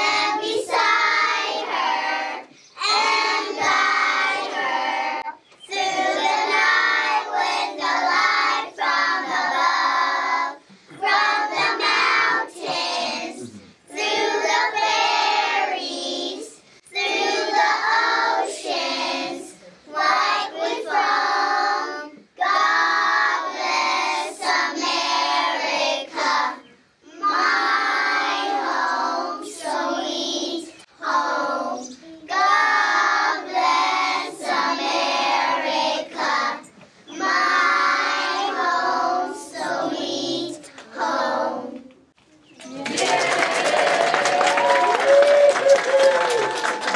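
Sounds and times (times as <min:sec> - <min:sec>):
children singing together: 0:00.0 - 0:41.9.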